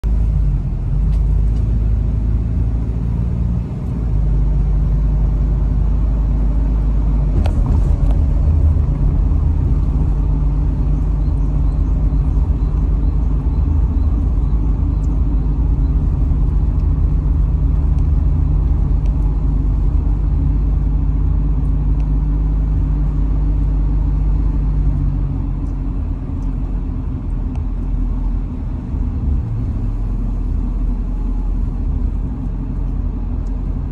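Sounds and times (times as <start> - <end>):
car engine and tyre rumble: 0.0 - 33.9.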